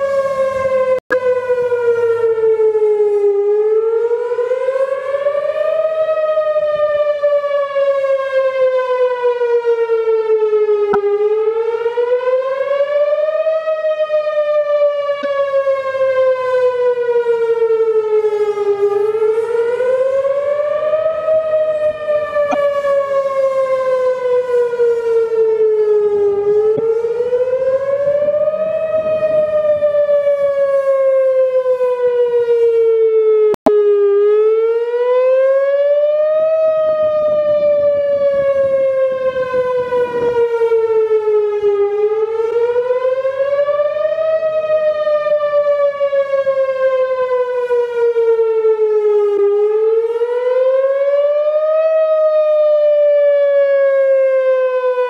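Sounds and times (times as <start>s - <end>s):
warning siren wailing: 0.0s - 55.0s.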